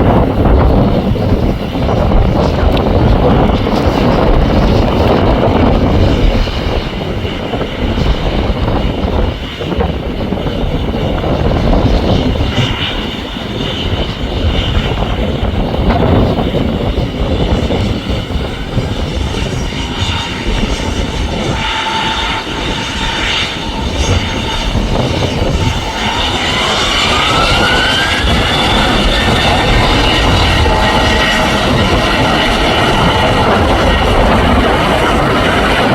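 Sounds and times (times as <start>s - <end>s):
jet engine whine rising: 0.0s - 35.9s
jet engines running: 0.0s - 35.9s
wind rumbling on microphone: 0.0s - 35.9s.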